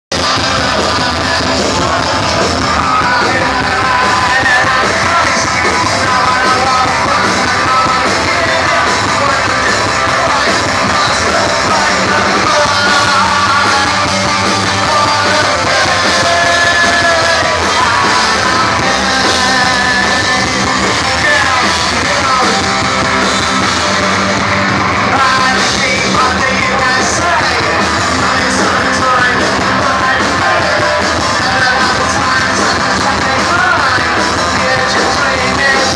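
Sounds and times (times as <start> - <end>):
punk rock band playing: 0.1 - 35.9
singer shouting and singing: 0.1 - 35.9.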